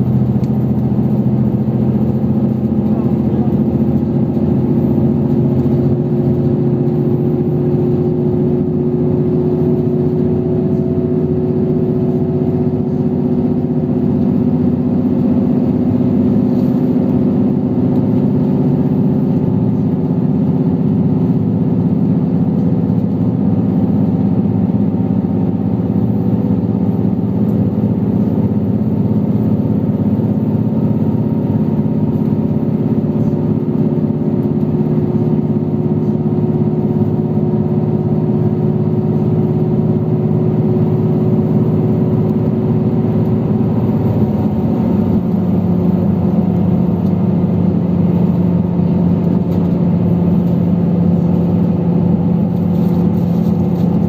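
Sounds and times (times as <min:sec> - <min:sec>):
train engine humming: 0:00.0 - 0:54.0.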